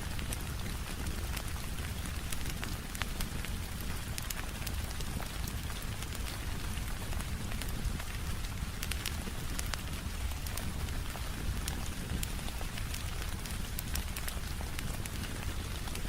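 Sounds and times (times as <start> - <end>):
steady rain falling: 0.0 - 16.0
wood fire crackling: 0.0 - 16.0.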